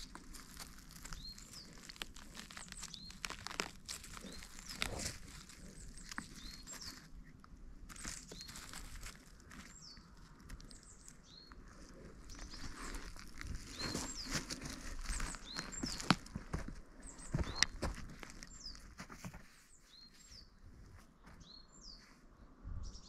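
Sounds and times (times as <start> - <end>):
twigs snapping: 0.0 - 19.2
footsteps on forest floor: 0.0 - 21.6.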